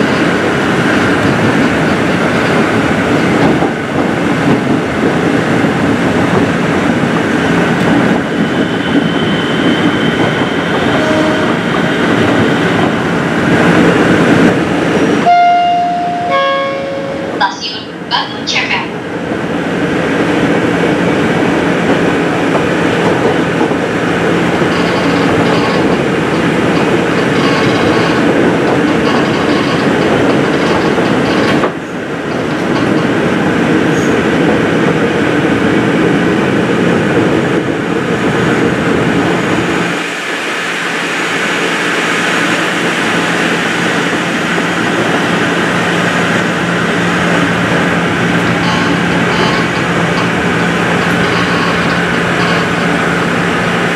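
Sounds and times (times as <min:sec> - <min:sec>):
train car rumble and rattle: 0:00.0 - 0:53.9.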